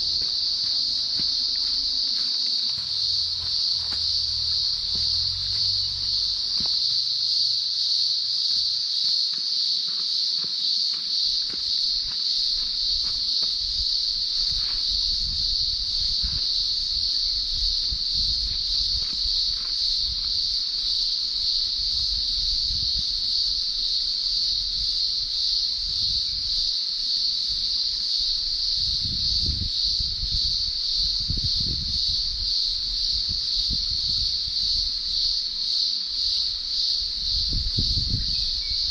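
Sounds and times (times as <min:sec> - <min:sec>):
cicadas shrilling: 0:00.0 - 0:38.9.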